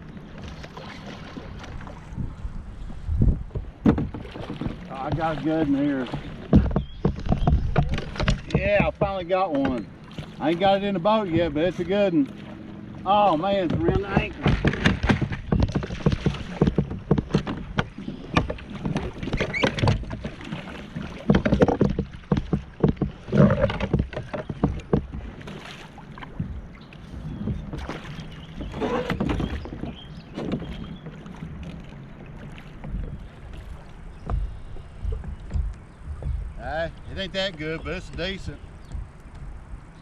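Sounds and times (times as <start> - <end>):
knocks and clatter on kayak: 0.0 - 40.0
water splashing: 0.0 - 40.0.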